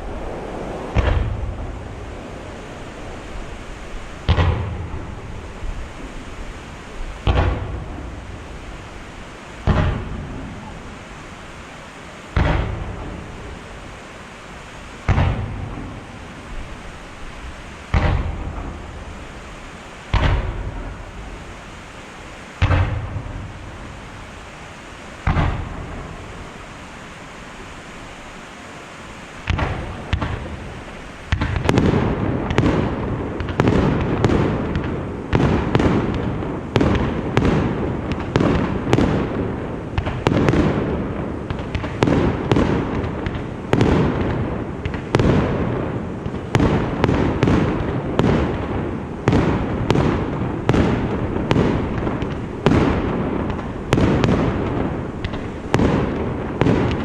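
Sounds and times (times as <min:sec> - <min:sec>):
fireworks booming: 0:00.0 - 0:27.7, 0:29.4 - 0:57.0
continuous rumble: 0:00.0 - 0:57.0.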